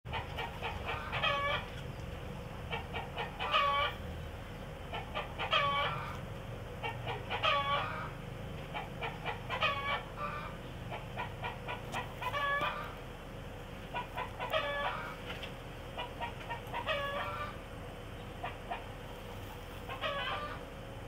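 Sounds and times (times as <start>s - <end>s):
hen cackling: 0.1s - 21.0s.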